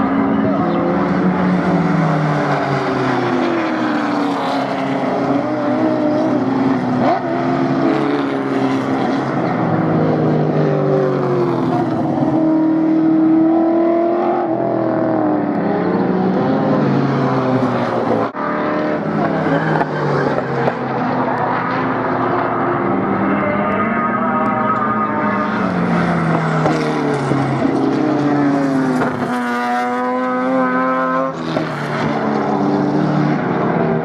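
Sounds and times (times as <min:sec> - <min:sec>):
racing car engines running hard: 0:00.0 - 0:34.0.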